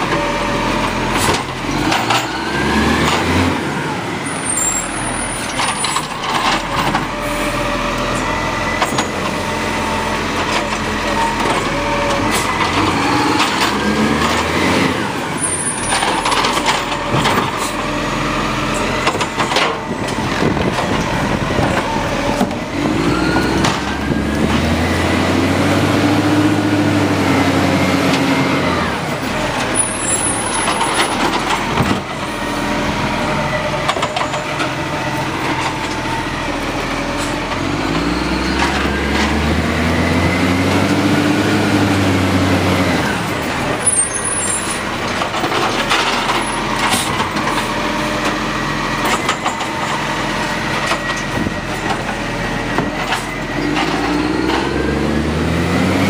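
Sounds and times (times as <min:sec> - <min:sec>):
garbage truck engine revving: 0:00.0 - 0:56.0.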